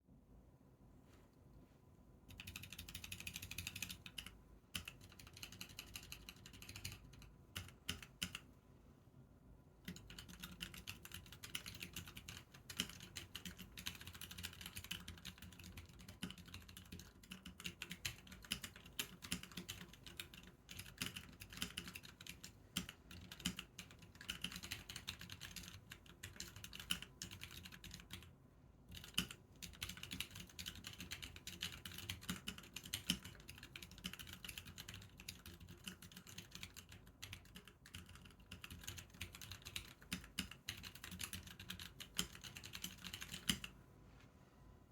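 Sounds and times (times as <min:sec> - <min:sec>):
mechanical keyboard typing: 0:02.3 - 0:08.5, 0:09.8 - 0:28.3, 0:28.9 - 0:43.8.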